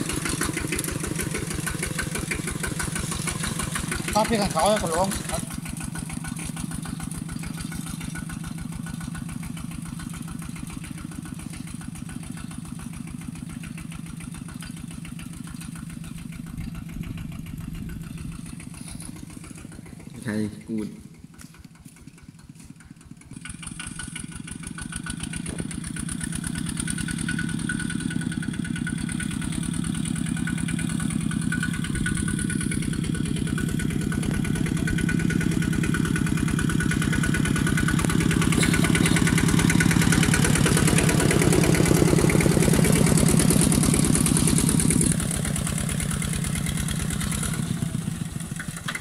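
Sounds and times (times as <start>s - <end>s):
diesel tractor engine chugging: 0.0s - 49.0s.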